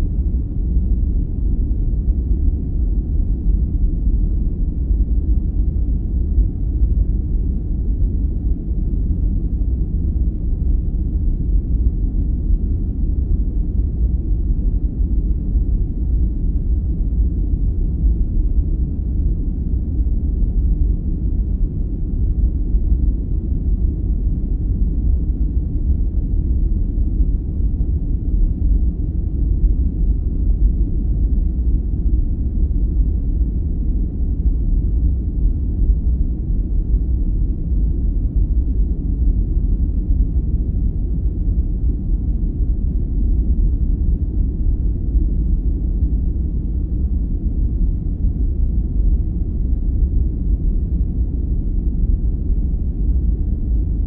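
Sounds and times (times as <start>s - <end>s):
deep steady noise: 0.0s - 54.0s.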